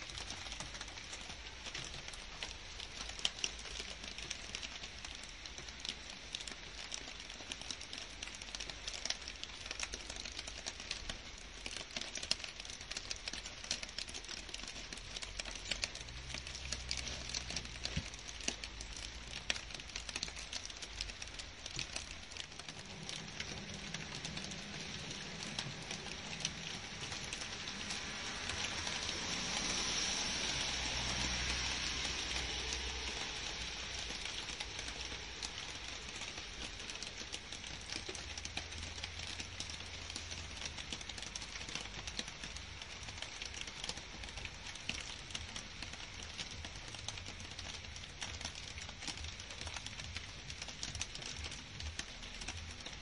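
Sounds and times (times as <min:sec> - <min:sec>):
rain on foliage: 0:00.0 - 0:53.0.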